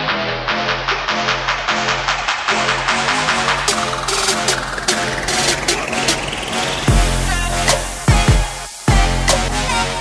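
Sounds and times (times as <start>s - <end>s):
music with heavy beat: 0.0s - 10.0s.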